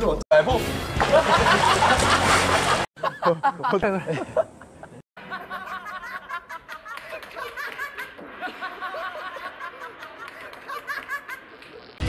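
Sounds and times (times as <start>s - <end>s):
young men laughing: 1.0s - 12.0s.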